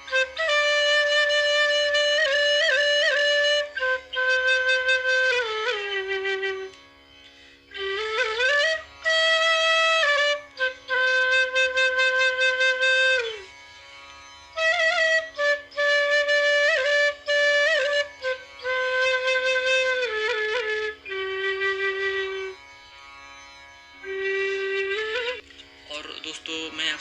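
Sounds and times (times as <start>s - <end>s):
bamboo flute melody: 0.0s - 6.8s, 7.7s - 13.5s, 14.5s - 22.7s, 23.9s - 25.5s.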